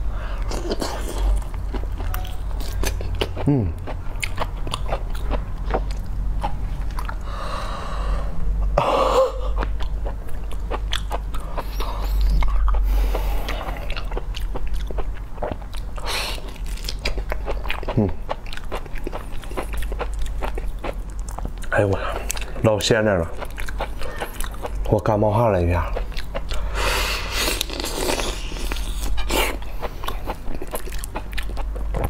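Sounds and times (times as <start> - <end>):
chewing with mouth clicks: 0.4 - 7.2, 9.5 - 25.1, 25.8 - 26.7, 27.3 - 32.0.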